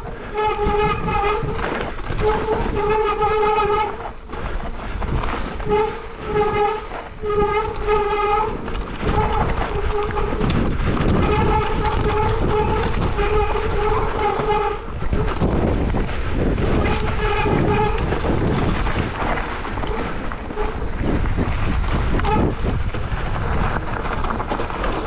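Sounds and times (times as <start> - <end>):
tyres rumbling on trail: 0.0 - 25.0.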